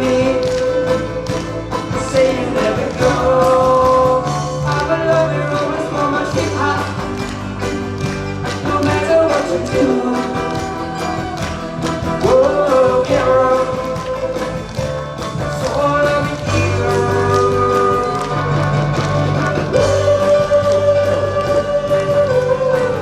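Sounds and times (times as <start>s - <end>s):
live band playing pop song: 0.0s - 23.0s
steady drum beat: 0.0s - 23.0s.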